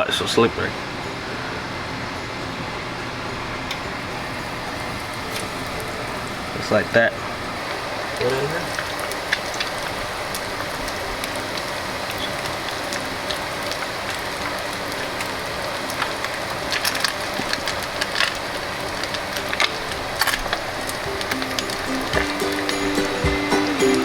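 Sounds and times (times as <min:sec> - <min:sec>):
fish deep-frying in oil: 0:03.7 - 0:24.0.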